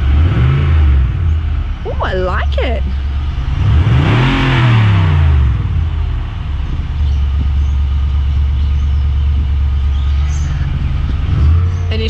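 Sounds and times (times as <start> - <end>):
engine revving and idling: 0.0 - 12.0.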